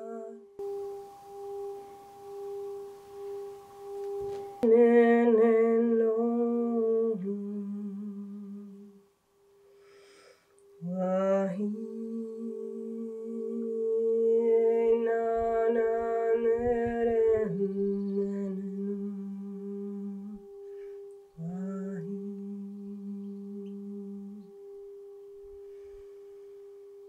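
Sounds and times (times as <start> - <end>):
woman humming: 0.0 - 9.0, 10.8 - 24.9
steady ringing tone: 0.6 - 9.8, 10.4 - 27.0.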